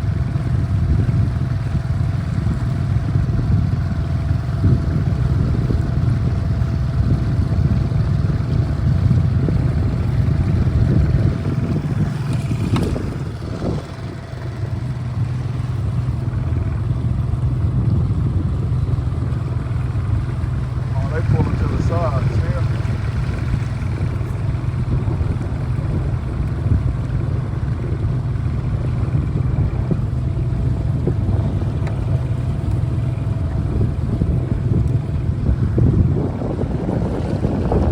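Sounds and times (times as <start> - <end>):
outboard motor droning: 0.0 - 37.9.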